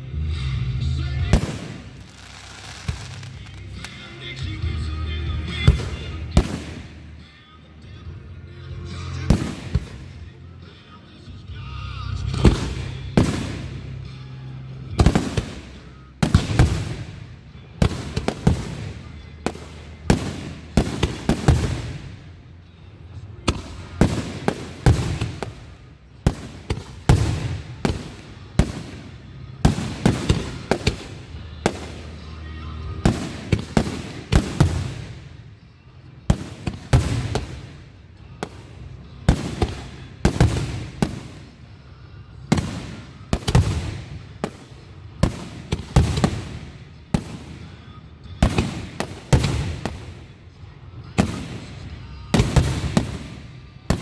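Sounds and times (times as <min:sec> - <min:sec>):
music playing: 0:00.0 - 0:54.0
fireworks bursting: 0:01.2 - 0:07.3, 0:09.1 - 0:10.4, 0:12.3 - 0:14.2, 0:15.0 - 0:22.4, 0:23.5 - 0:35.6, 0:36.3 - 0:41.8, 0:42.4 - 0:54.0.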